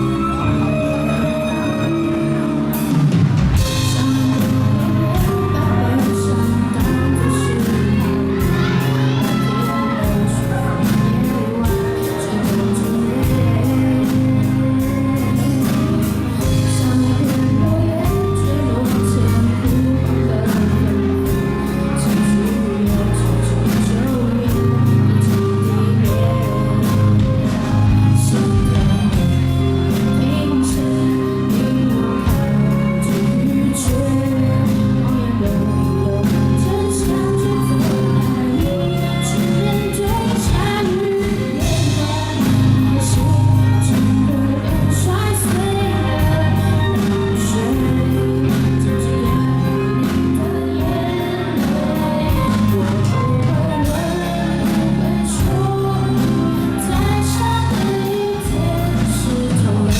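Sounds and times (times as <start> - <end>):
lead singer: 0.0 - 59.9
live rock band: 0.0 - 59.9.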